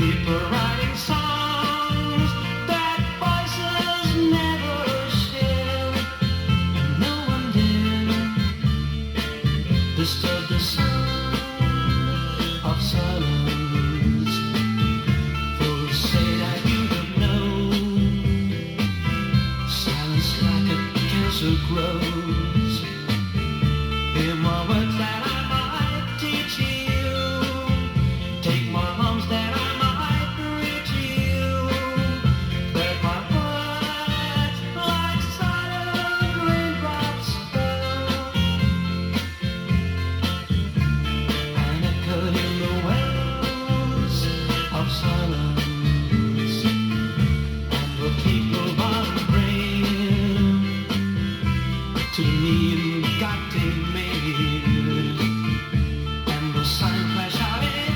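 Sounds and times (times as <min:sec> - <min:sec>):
guitar: 0:00.0 - 0:57.9
pop-rock band playing: 0:00.0 - 0:57.9
steady bass line: 0:00.0 - 0:57.9.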